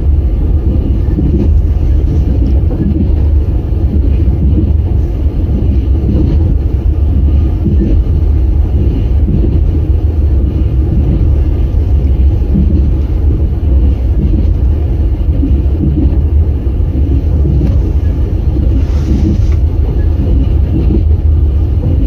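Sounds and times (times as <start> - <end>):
train rumbling inside carriage: 0.0 - 22.0.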